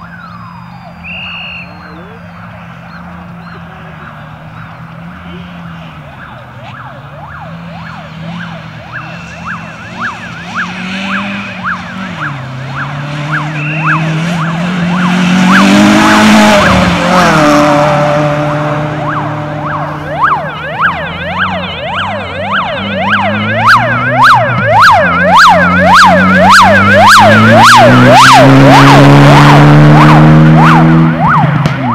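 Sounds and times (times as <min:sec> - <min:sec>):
siren yelping: 0:00.0 - 0:31.9
rally car engine passing: 0:00.4 - 0:31.9.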